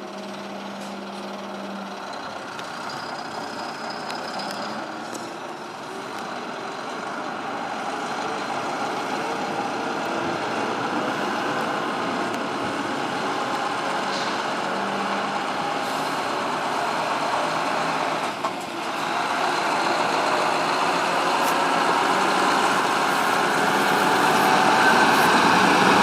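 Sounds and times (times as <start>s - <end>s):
diesel truck engine running: 0.0s - 26.0s
road noise: 0.0s - 26.0s.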